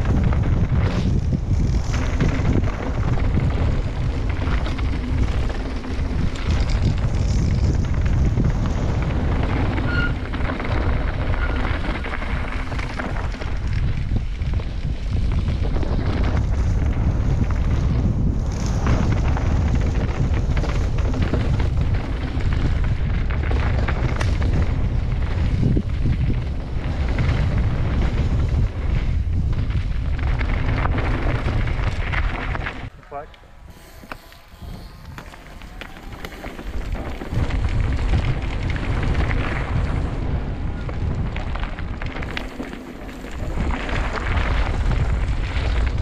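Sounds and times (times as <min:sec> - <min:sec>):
mountain bike rattling on trail: 0:00.0 - 0:46.0
wind buffeting microphone: 0:00.0 - 0:46.0.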